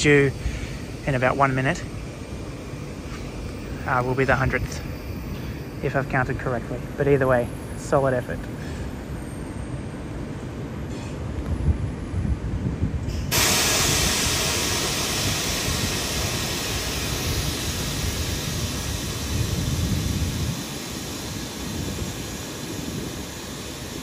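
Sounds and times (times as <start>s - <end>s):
train rumble and hiss: 0.0s - 24.0s.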